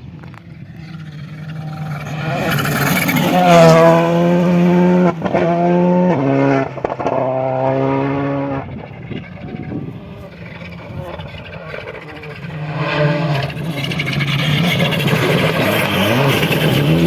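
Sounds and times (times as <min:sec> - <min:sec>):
rally car engine passing on gravel: 0:00.0 - 0:17.0.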